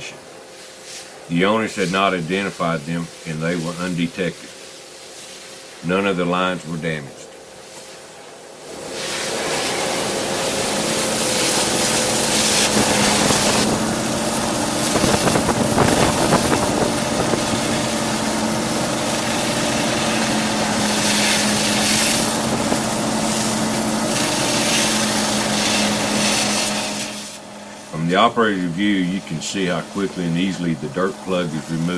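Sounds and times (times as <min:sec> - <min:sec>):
high-pressure water jet hissing: 0:00.6 - 0:05.8, 0:08.7 - 0:31.9
engine and pump hum: 0:06.0 - 0:31.9.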